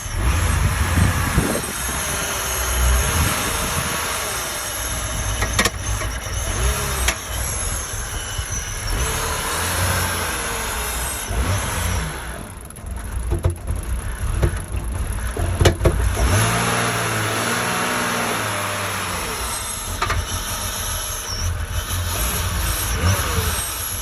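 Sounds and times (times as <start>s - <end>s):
car engine running with knocking: 0.0s - 24.0s
sharp clicks: 0.0s - 24.0s.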